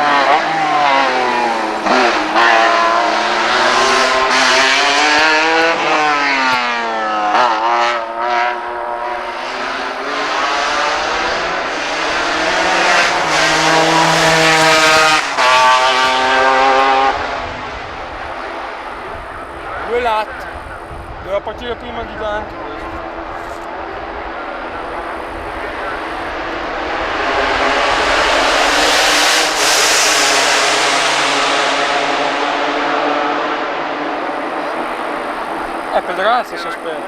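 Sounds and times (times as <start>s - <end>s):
racing engine at full throttle: 0.0s - 37.0s.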